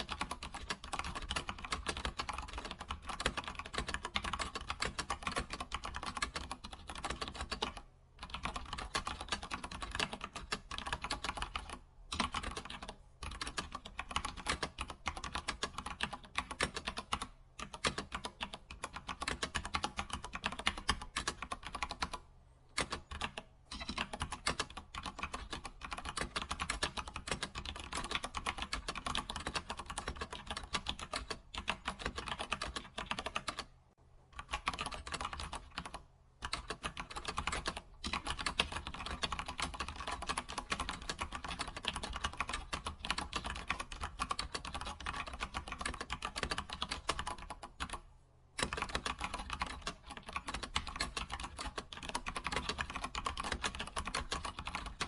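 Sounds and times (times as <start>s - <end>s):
computer keyboard typing: 0.0s - 33.7s, 34.4s - 48.0s, 48.6s - 55.0s.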